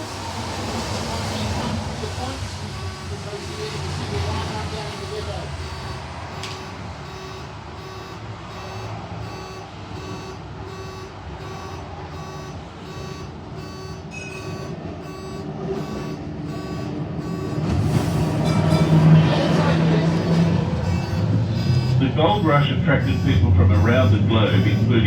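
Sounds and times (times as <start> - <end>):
vehicle running rumble: 0.0 - 25.0
electronic warning beeps: 1.4 - 25.0.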